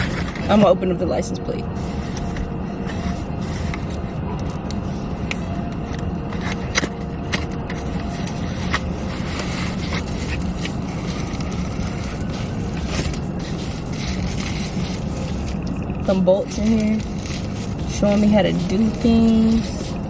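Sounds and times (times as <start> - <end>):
steady low rumble: 0.0 - 20.0
plastic packaging clicks and scrapes: 2.0 - 15.8, 16.4 - 20.0.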